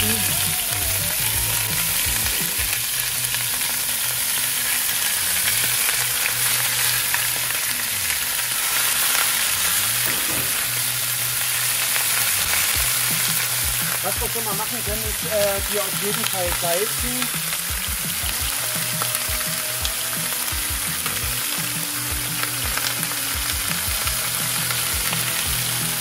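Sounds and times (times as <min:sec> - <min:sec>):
meat sizzling: 0:00.0 - 0:26.0.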